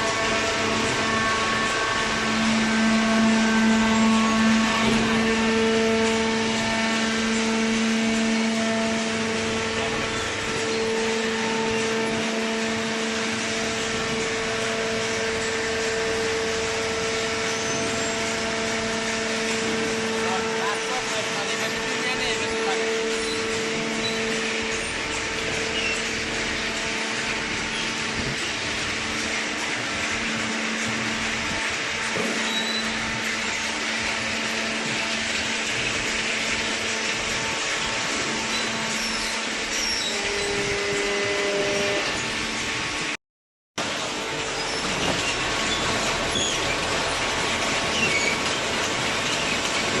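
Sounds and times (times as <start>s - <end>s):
baler machine hum: 0.0s - 43.1s, 43.8s - 50.0s.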